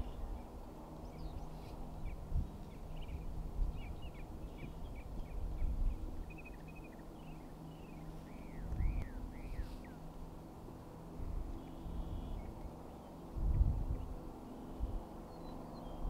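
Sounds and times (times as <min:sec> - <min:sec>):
small birds chirping: 0:00.0 - 0:10.1, 0:11.2 - 0:16.0
distant aircraft engines droning: 0:00.0 - 0:16.0.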